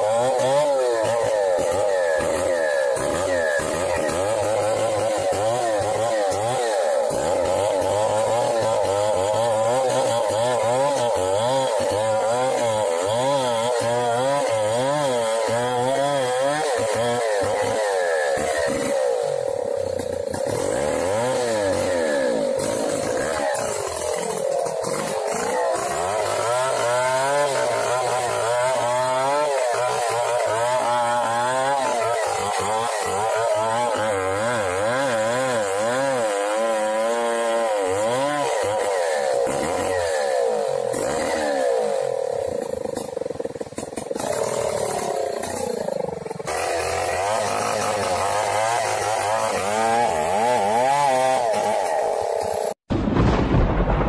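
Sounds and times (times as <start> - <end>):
chainsaw cutting tree trunk: 0.0 - 52.9.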